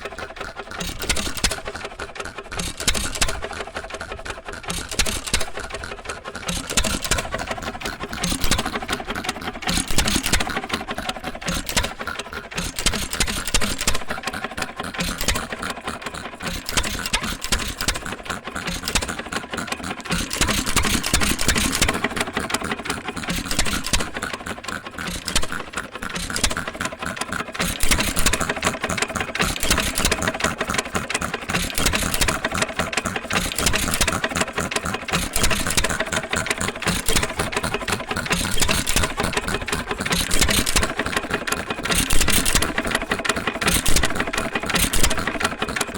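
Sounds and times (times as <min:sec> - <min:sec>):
engine running compressor clatter: 0:00.0 - 0:45.9.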